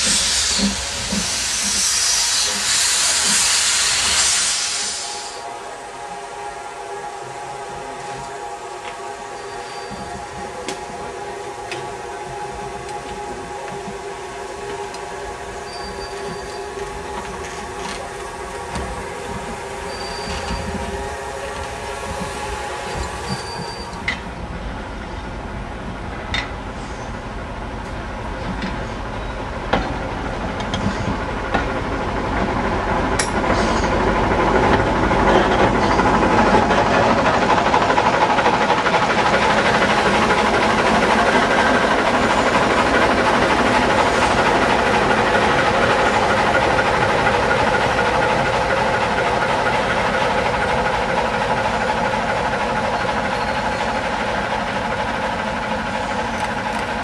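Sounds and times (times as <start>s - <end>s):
diesel locomotive engine running: 0.0s - 57.0s
passenger coaches rolling: 0.0s - 57.0s.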